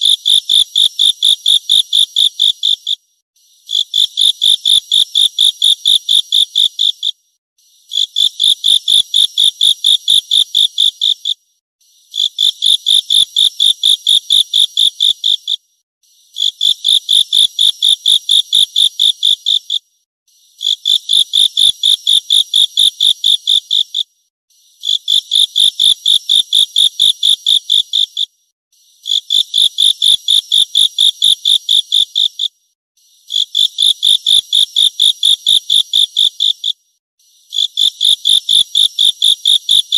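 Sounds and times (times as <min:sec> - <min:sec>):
insect chirping: 0:00.0 - 0:03.0, 0:03.6 - 0:07.1, 0:07.8 - 0:11.4, 0:12.0 - 0:15.6, 0:16.3 - 0:19.8, 0:20.6 - 0:24.0, 0:24.8 - 0:28.3, 0:29.0 - 0:32.5, 0:33.2 - 0:36.8, 0:37.4 - 0:39.9.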